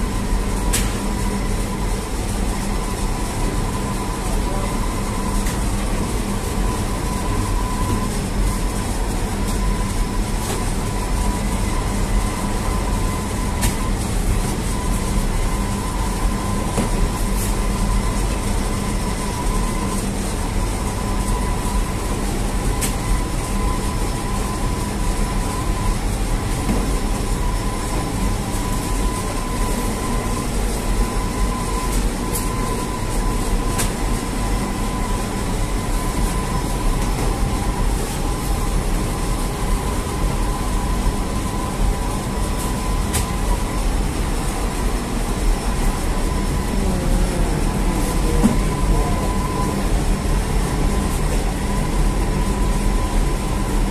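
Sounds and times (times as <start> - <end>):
oven and machinery rumble: 0.0 - 53.9.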